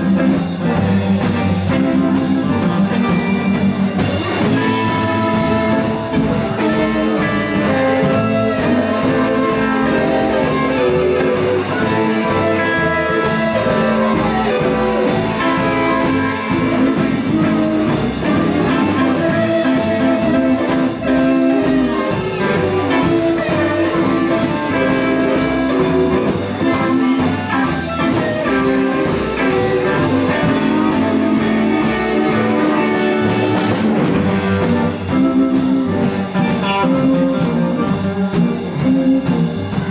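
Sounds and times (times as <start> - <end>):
electric guitar: 0.0 - 39.9
steady drum beat: 0.0 - 39.9.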